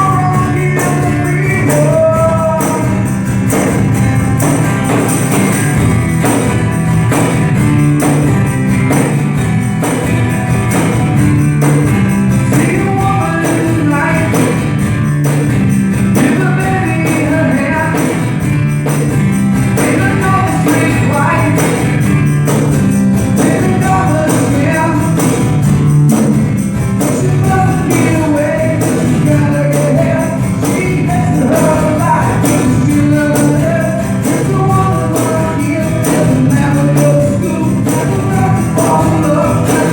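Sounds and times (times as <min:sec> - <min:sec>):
bass line: 0:00.0 - 0:39.9
percussion beat: 0:00.0 - 0:39.9
small band playing: 0:00.0 - 0:39.9.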